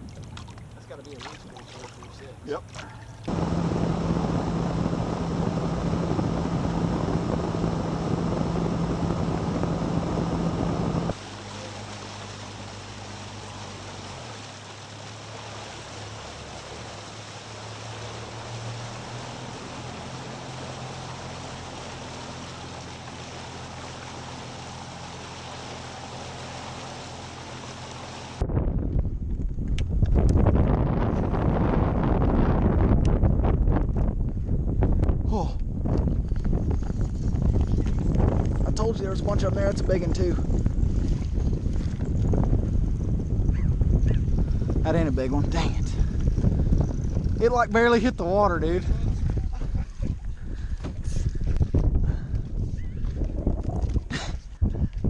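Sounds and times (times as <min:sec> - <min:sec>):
outboard motor running: 0:00.0 - 0:28.4, 0:35.0 - 0:55.0
rushing wind and water: 0:00.0 - 0:55.0.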